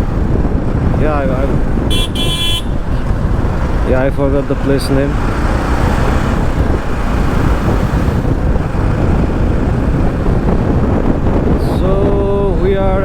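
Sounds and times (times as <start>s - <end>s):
motorcycle road noise: 0.0s - 13.0s
wind rush: 0.0s - 13.0s.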